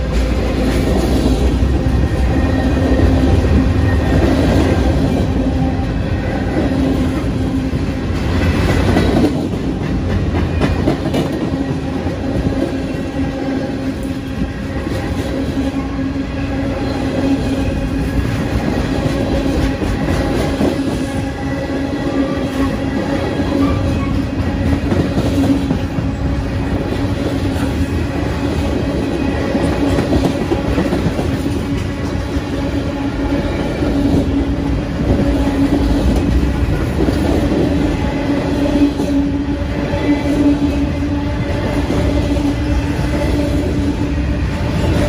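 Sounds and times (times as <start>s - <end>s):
train wheels clacking on rails: 0.0s - 45.0s.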